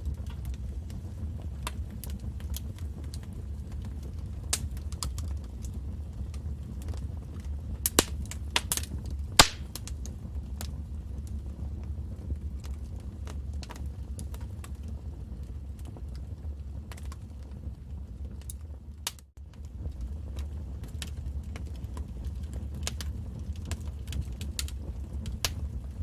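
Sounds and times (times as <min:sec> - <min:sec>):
fire popping and snapping: 0:00.0 - 0:26.0
low rumble of flames: 0:00.0 - 0:26.0.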